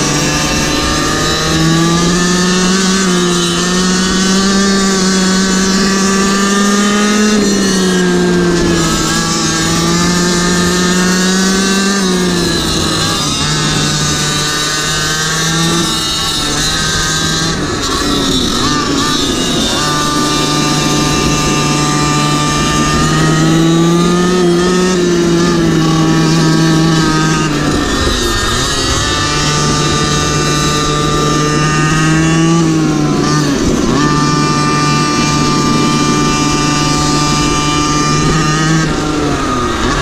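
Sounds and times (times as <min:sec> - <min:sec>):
small two-stroke engine revving: 0:00.0 - 0:40.0
wind buffeting microphone: 0:00.0 - 0:40.0.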